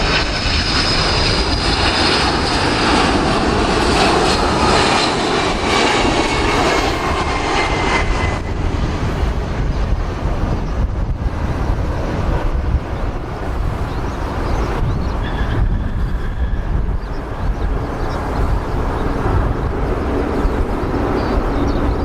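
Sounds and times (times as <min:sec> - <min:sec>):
gusty wind buffeting microphone: 0:00.0 - 0:22.0
jet engines of landing airliner: 0:00.0 - 0:22.0.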